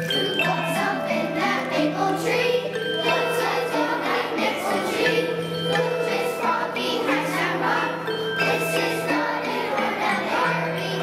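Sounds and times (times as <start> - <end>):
children's choir singing: 0.0 - 11.0
xylophones playing a tune: 0.0 - 11.0.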